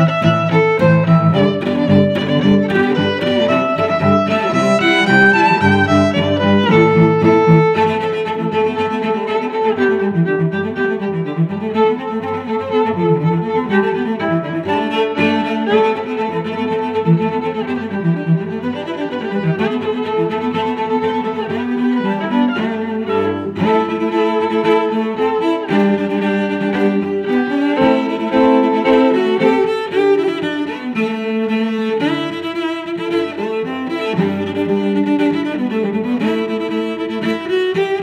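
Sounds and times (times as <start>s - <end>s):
bowed strings playing melody: 0.0s - 38.0s.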